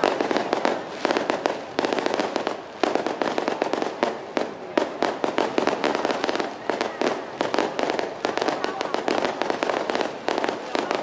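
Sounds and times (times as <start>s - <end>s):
fireworks cracking bangs: 0.0s - 11.0s.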